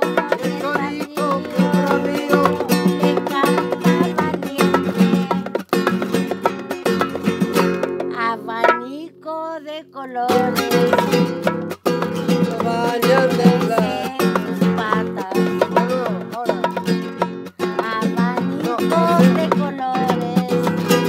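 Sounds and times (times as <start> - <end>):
person singing: 0.0 - 6.3, 8.1 - 21.0
acoustic guitar: 0.0 - 21.0.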